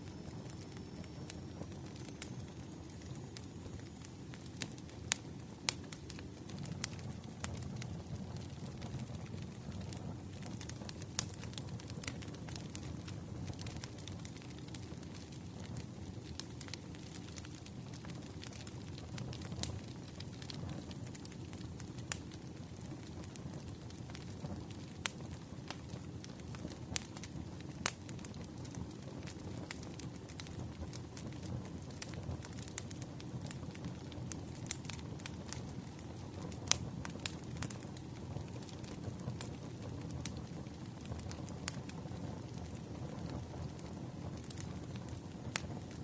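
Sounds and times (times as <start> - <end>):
firewood crackling: 0.0 - 46.0
low fire rumble: 0.0 - 46.0.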